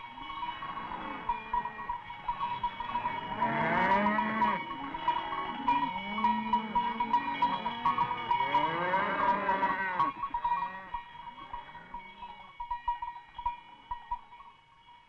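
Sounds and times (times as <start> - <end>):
cowbells clanking: 0.0 - 15.0
cows mooing: 0.1 - 12.2.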